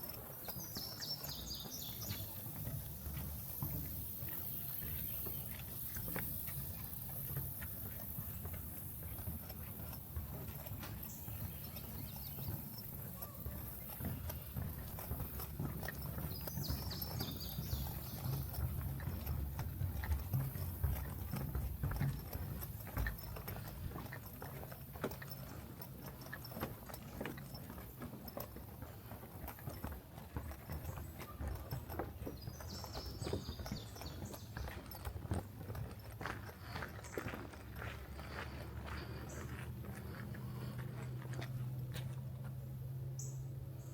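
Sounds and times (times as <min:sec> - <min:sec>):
footsteps crunching on trail: 0:00.0 - 0:43.4.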